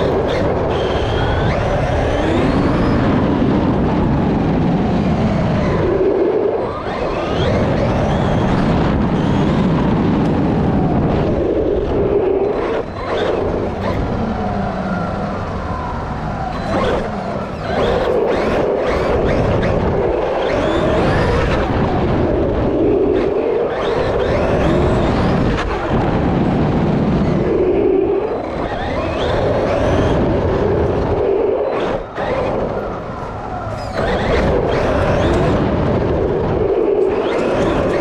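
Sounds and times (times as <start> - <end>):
electric motor whine: 0.0 - 38.0.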